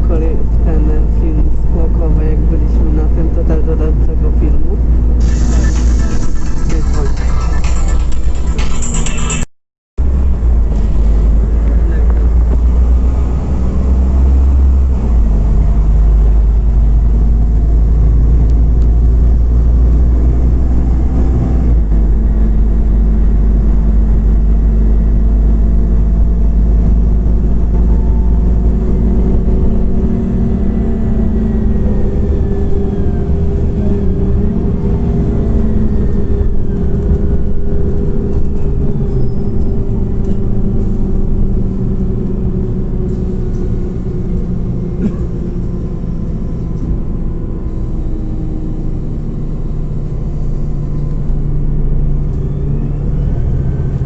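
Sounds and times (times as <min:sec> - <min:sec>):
bus engine rumbling: 0:00.0 - 0:54.0
road noise: 0:00.0 - 0:54.0.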